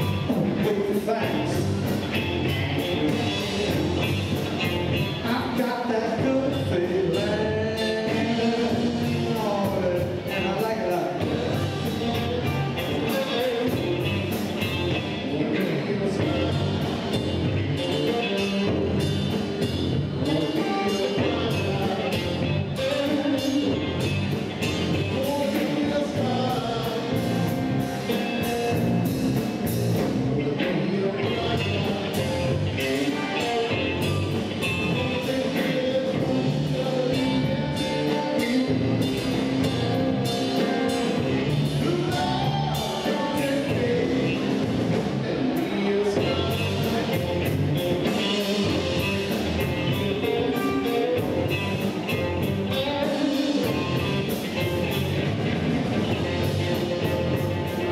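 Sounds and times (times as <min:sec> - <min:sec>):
person singing: 0:00.0 - 0:28.8, 0:30.3 - 0:55.2
live blues band playing: 0:00.0 - 0:57.9.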